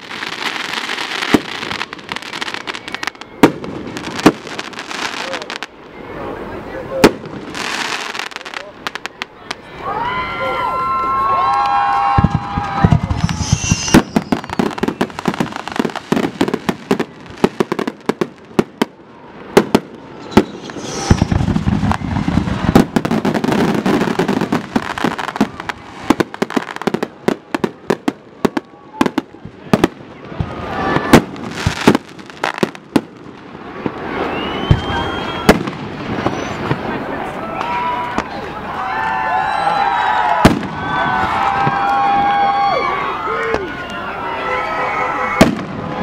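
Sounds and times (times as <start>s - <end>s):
firework bursts and bangs: 0.0s - 6.0s, 6.9s - 9.7s, 11.5s - 38.5s, 39.3s - 42.7s, 45.3s - 46.0s
firework crackling: 0.0s - 46.0s.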